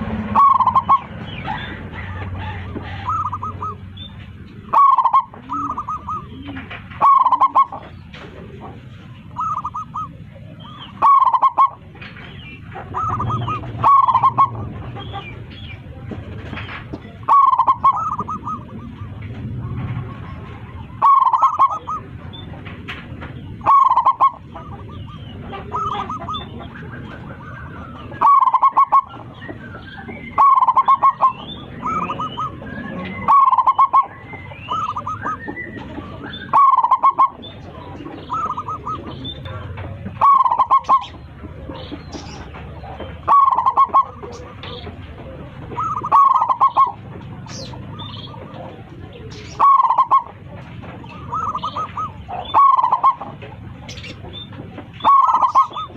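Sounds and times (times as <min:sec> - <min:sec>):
dove cooing song: 0:00.0 - 0:55.9
small birds chirping: 0:00.0 - 0:55.9.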